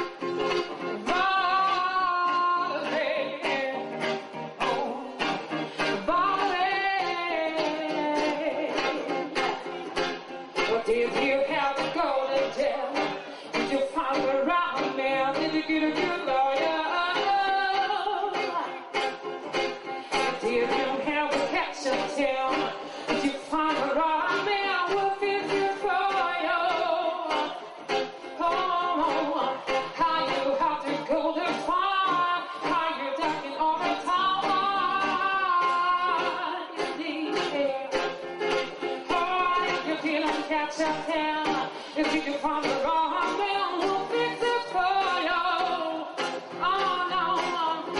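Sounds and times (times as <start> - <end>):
guitar accompaniment: 0.0 - 47.9
woman singing into a microphone: 0.0 - 47.9.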